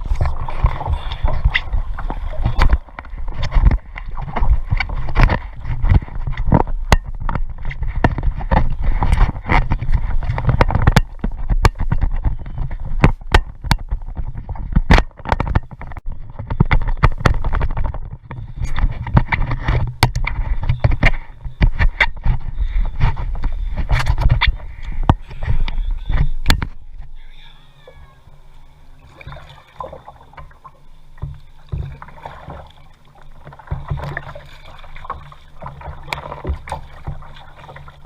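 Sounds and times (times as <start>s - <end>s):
paddle knocking on hull: 0.0s - 27.1s, 29.1s - 38.0s
paddle splashing water: 0.0s - 38.0s.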